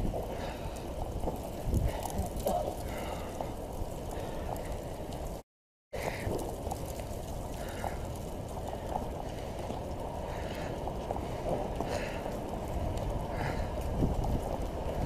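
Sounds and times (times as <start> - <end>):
wind and wildfire roaring: 0.0 - 15.0.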